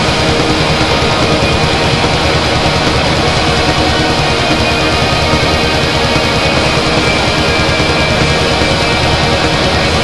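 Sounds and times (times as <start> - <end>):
loud dense music: 0.0 - 10.0.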